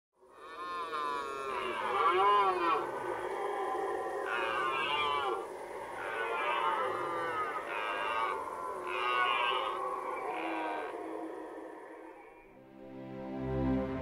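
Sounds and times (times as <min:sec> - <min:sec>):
deer stags roaring: 0:00.2 - 0:12.6.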